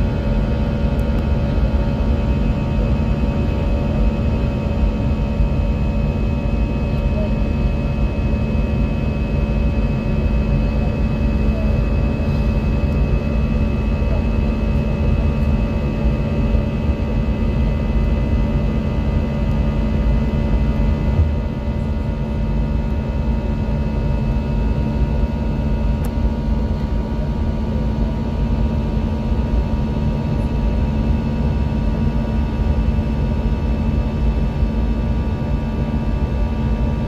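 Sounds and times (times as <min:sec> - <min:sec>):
aircraft engine rumble: 0:00.0 - 0:37.0
constant cabin hum: 0:00.0 - 0:37.0.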